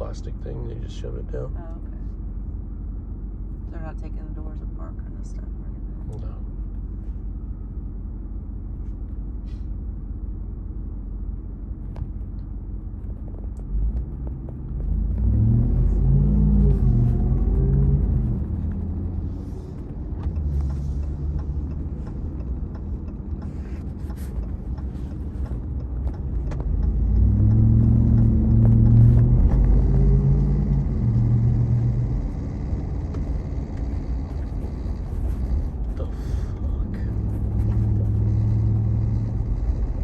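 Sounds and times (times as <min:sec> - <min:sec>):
car engine: 0:00.0 - 0:40.0
road rumble: 0:00.0 - 0:40.0.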